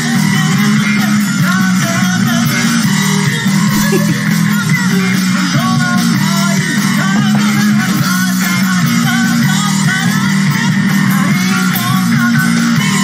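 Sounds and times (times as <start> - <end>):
electric bass guitar: 0.0 - 13.0
live rock band playing: 0.0 - 13.0.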